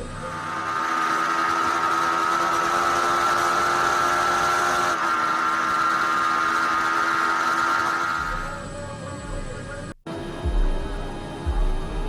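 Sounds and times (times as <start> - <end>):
racing motorcycle engine high revs: 0.0 - 12.0.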